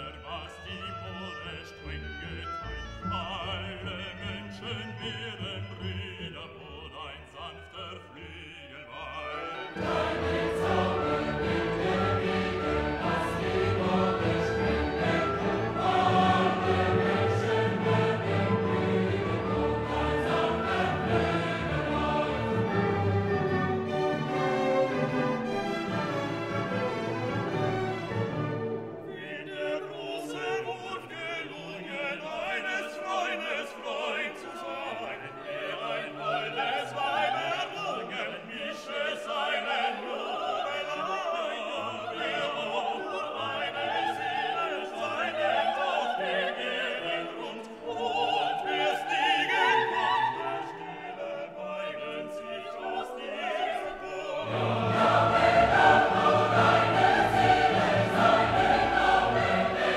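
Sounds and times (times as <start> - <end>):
orchestral music with choir: 0.0 - 59.9.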